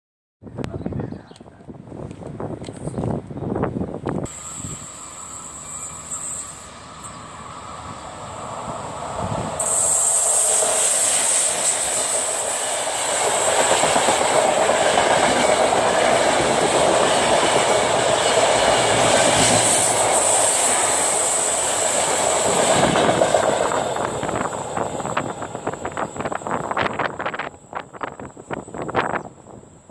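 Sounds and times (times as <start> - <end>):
passenger train passing: 1.6 - 29.9
train wheels squealing on rails: 4.3 - 29.9.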